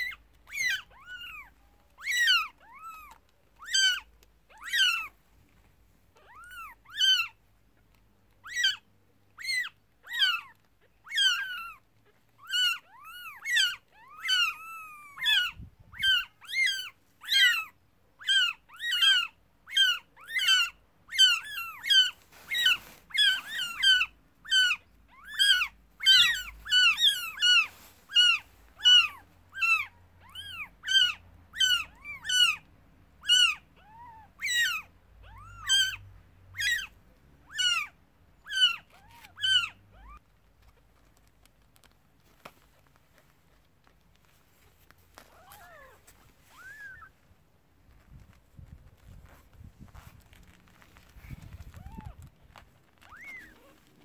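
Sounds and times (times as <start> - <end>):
kittens mewing: 0.0 - 5.2, 6.1 - 7.4, 8.4 - 40.8, 44.7 - 47.3, 49.9 - 54.0.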